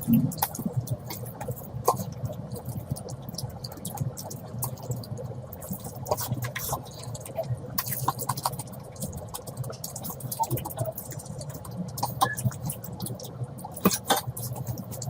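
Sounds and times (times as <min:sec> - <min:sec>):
wet chewing with smacking clicks: 0:00.1 - 0:15.0.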